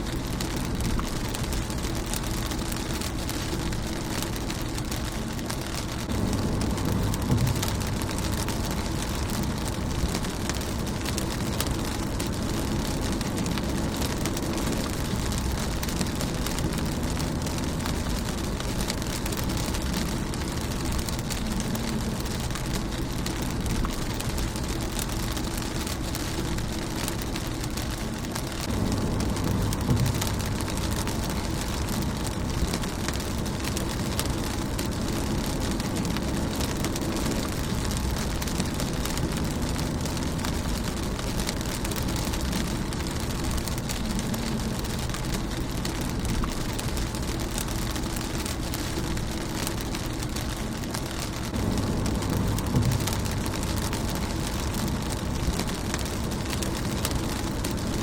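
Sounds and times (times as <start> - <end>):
low rumble: 0.0 - 58.0
rain on a car windshield: 0.0 - 58.0.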